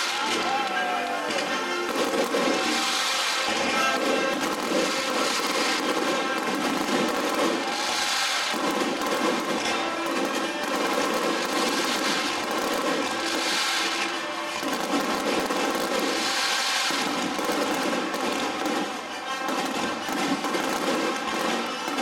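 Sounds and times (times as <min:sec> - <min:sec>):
fireworks bursting and crackling: 0:00.0 - 0:22.0
music playing: 0:00.0 - 0:22.0.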